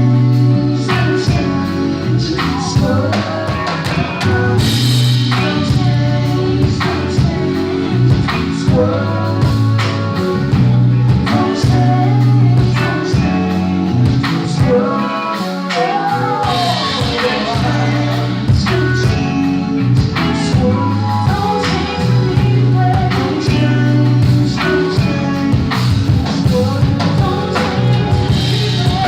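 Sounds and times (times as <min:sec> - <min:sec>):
live soul band playing: 0:00.0 - 0:29.0
person singing: 0:00.0 - 0:29.0.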